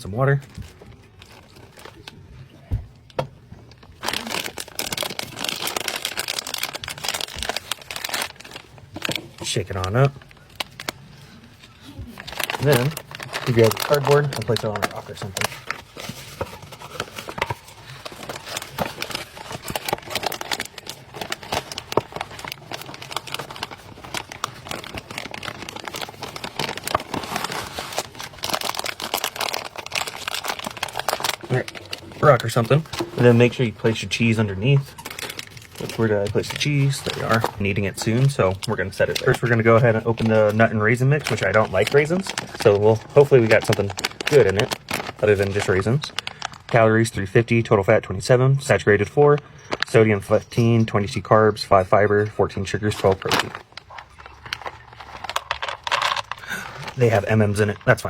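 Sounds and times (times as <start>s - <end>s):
plastic heater bag crinkling: 0.3s - 47.7s, 49.0s - 58.0s.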